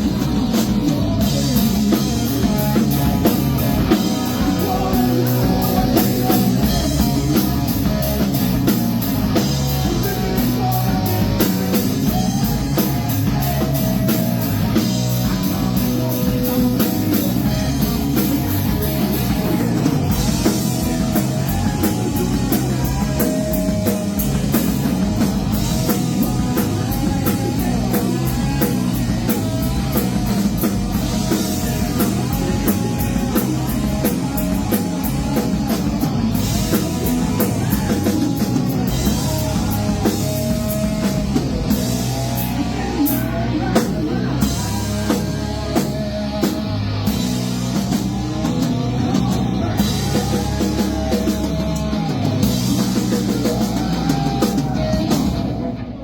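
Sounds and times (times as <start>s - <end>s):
drum kit: 0.0s - 56.0s.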